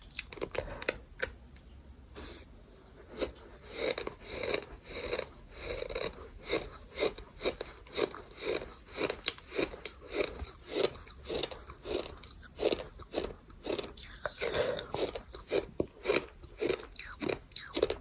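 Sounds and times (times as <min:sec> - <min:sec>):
crunchy chewing: 0:00.0 - 0:01.4, 0:03.0 - 0:18.0.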